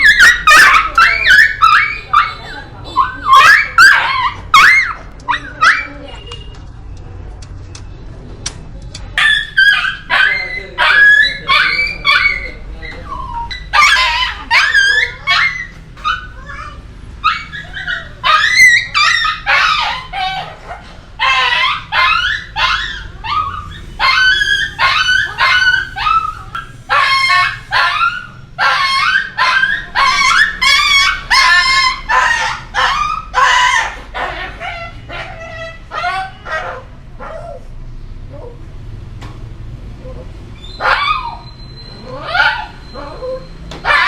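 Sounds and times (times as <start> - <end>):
dog whimpering and yelping: 0.0 - 6.1, 9.2 - 37.7, 40.0 - 44.0.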